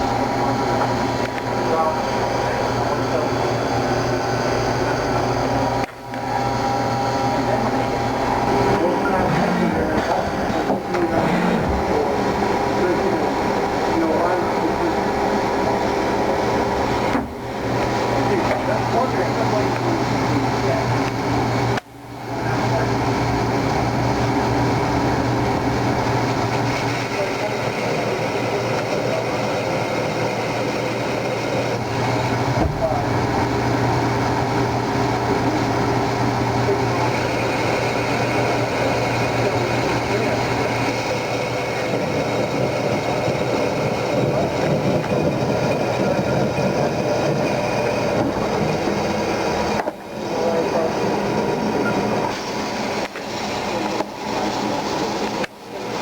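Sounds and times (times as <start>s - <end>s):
lathe machine whirring hum: 0.0s - 56.0s.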